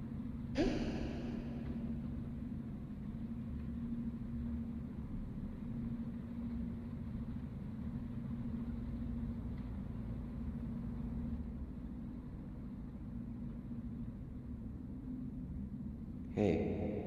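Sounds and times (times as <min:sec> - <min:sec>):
low ambient drone: 0:00.0 - 0:17.0.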